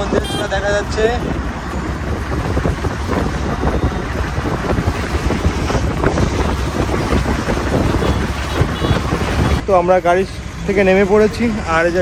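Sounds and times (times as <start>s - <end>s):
wind buffeting microphone: 0.0s - 9.7s
van engine and road noise: 0.0s - 12.0s.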